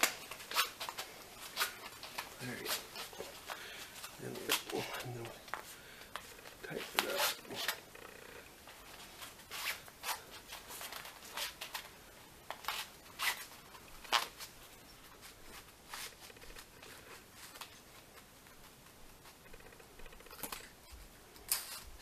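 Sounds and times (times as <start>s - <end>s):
cord scratching through fabric lacing: 0.0s - 11.9s, 12.5s - 20.4s.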